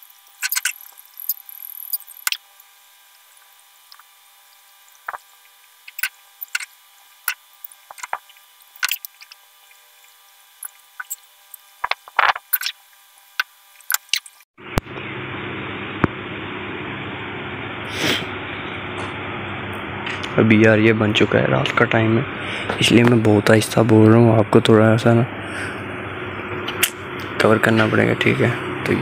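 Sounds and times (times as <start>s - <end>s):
electric fan whirring: 0.0s - 29.0s.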